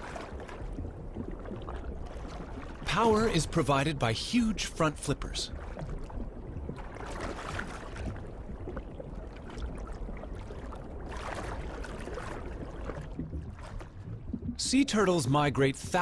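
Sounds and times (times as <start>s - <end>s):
water rushing and sloshing: 0.0s - 16.0s.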